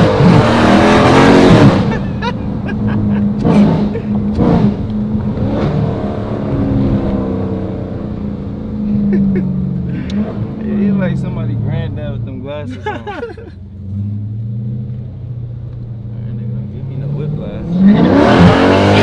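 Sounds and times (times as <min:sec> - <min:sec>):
car engine heard from cabin: 0:00.0 - 0:19.0.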